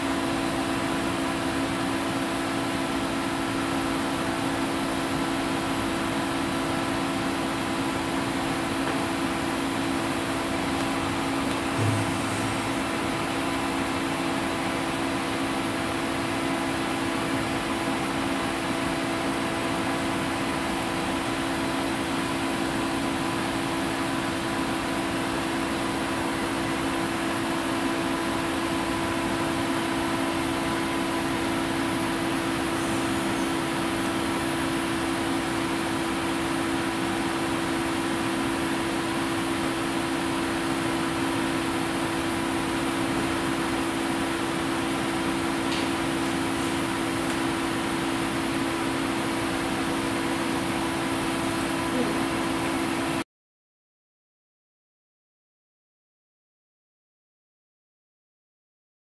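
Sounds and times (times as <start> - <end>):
steady machine hum: 0.0 - 53.2.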